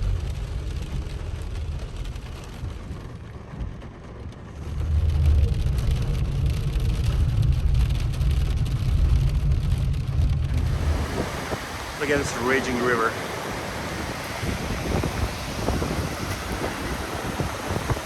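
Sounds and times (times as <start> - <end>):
car road and engine rumble: 0.0 - 18.0
rain: 0.0 - 18.0.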